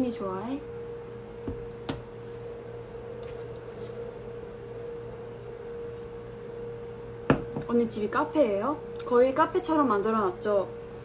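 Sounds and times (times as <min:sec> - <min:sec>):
room hum with constant tone: 0:00.0 - 0:11.0.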